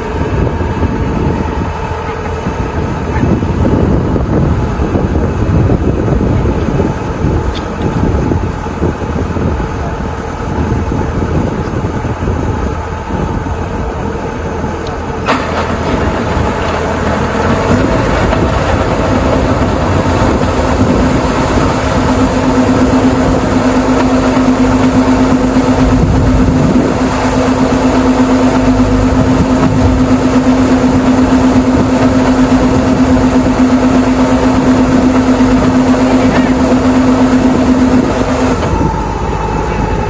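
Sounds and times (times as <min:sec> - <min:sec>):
combine harvester drone: 0:00.0 - 0:40.0.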